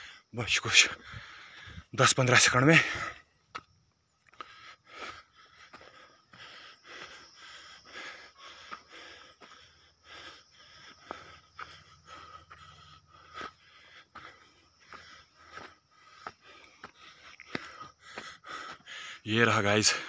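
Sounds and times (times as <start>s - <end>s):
man panting: 0.0s - 20.0s.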